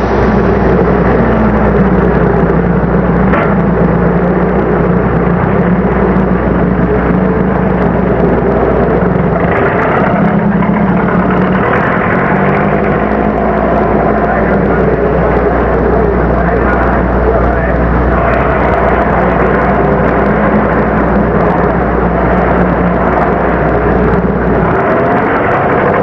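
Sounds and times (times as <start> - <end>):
constant low hum: 0.0 - 26.0
truck engine running: 0.0 - 26.0.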